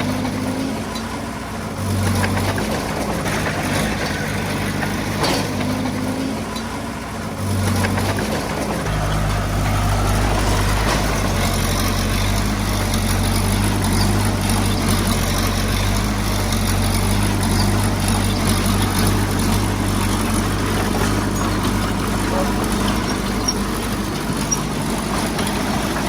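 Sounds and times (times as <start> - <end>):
diesel engine running steadily: 0.0 - 26.0.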